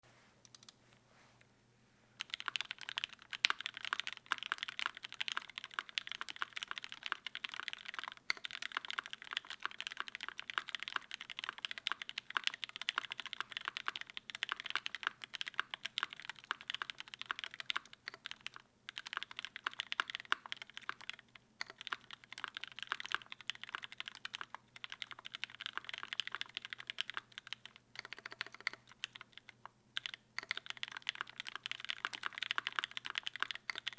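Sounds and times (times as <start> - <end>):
mechanical keyboard typing: 0.5 - 0.7, 2.2 - 33.9.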